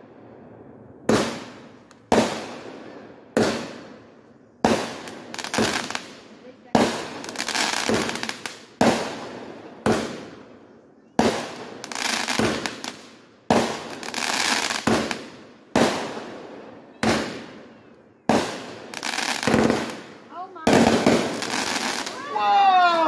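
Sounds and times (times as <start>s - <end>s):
fireworks banging and crackling: 1.1s - 4.0s, 4.6s - 10.6s, 11.2s - 23.0s.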